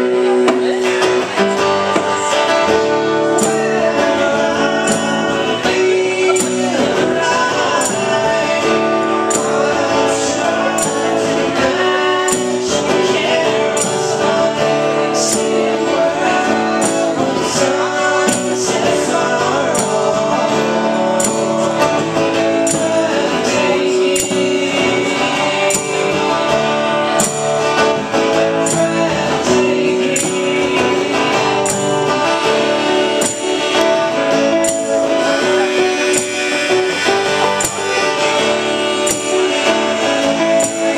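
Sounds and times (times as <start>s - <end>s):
acoustic guitars strumming: 0.0s - 40.9s.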